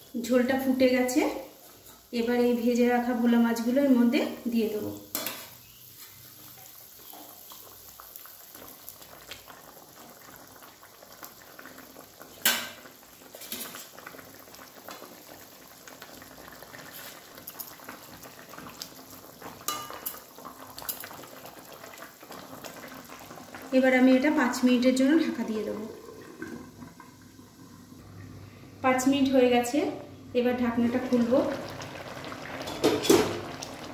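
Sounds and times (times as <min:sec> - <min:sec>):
gravy bubbling in a wok: 0:00.0 - 0:28.4, 0:30.2 - 0:33.9.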